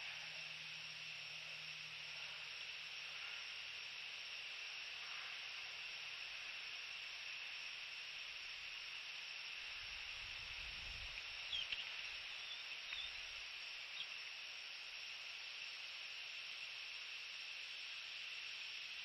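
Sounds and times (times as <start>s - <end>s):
faint microphone hiss: 0.0s - 19.0s.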